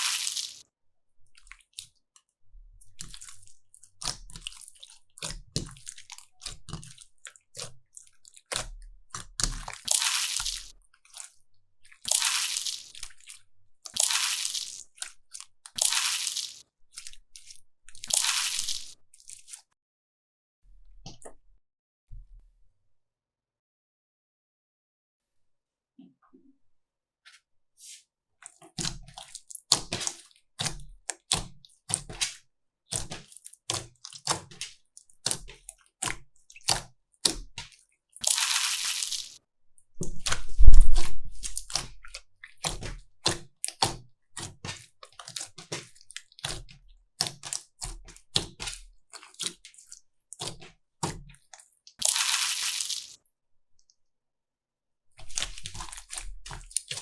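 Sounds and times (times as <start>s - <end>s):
slime squishing with wet crackles: 0.0s - 0.6s, 1.2s - 19.7s, 27.8s - 53.2s, 55.1s - 57.0s.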